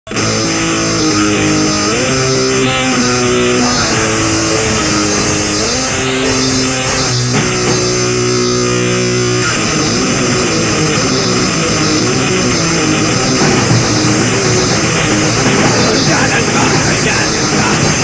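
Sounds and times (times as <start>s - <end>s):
distorted electric guitar chords: 0.1s - 18.0s.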